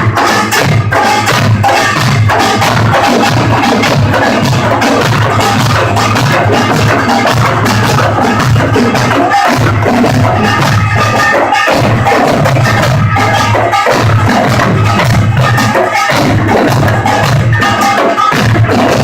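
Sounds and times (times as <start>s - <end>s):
gongs and drums in fast rhythm: 0.0s - 19.0s.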